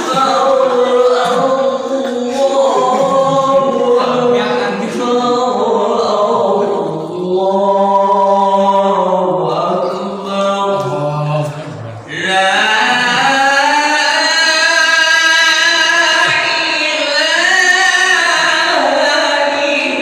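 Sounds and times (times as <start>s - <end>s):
voices singing chant: 0.0s - 20.0s.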